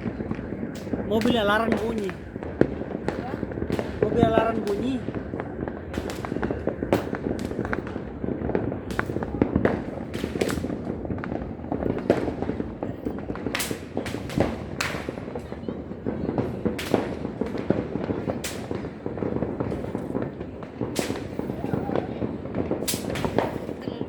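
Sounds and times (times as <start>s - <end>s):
distant fireworks rumble: 0.0s - 24.0s
firecrackers banging and crackling: 0.0s - 24.0s.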